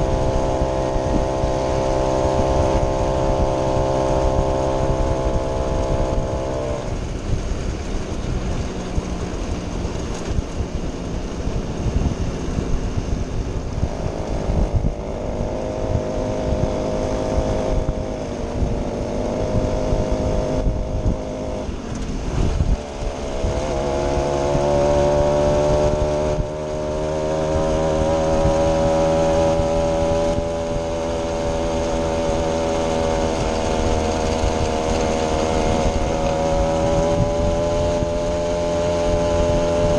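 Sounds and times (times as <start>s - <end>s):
two-stroke moped engine: 0.0s - 39.9s.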